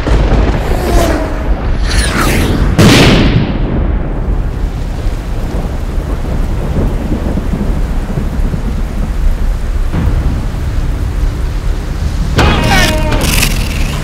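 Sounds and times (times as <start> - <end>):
heavy rain: 0.0 - 14.0
rolling thunder rumble: 0.0 - 14.0
thunder crack: 0.0 - 14.0.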